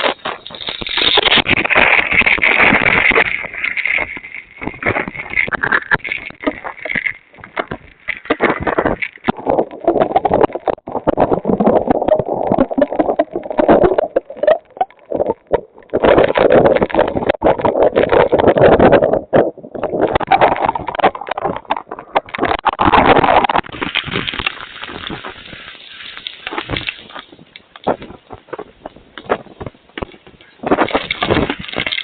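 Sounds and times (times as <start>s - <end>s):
crackling distortion: 0.0s - 32.0s
strong wind buffeting microphone: 0.0s - 32.0s.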